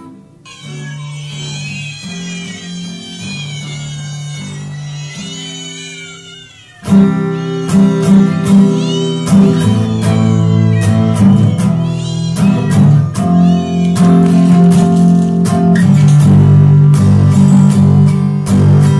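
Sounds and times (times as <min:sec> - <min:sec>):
acoustic guitar music: 0:00.0 - 0:18.9.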